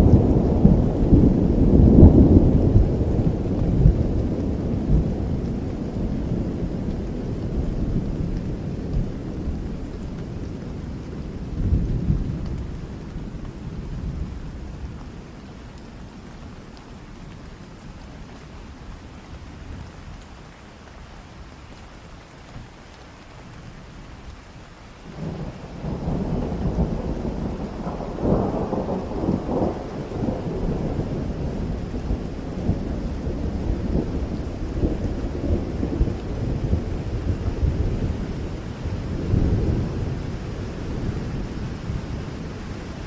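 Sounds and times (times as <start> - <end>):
rolling rumble of thunder: 0.0 - 20.2, 25.0 - 43.0
steady rain: 0.0 - 43.0.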